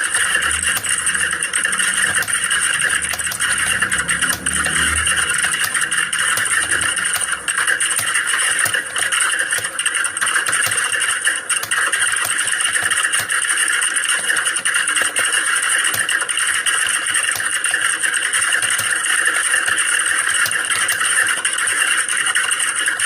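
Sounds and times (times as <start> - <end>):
fast keyboard typing: 0.0 - 23.0.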